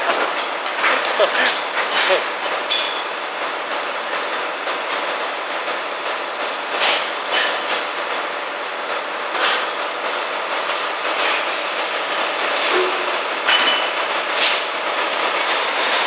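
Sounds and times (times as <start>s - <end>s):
crane engine and hydraulics running: 0.0s - 16.0s.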